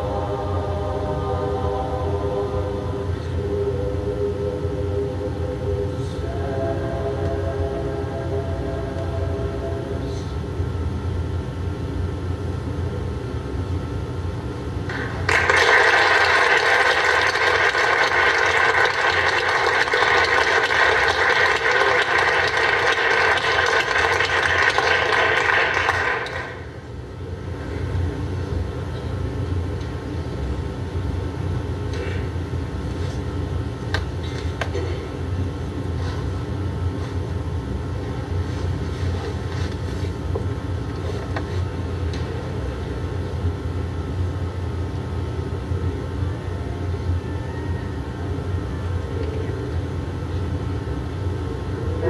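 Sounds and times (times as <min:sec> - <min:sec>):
room noise rumble and hum: 0:00.0 - 0:52.0.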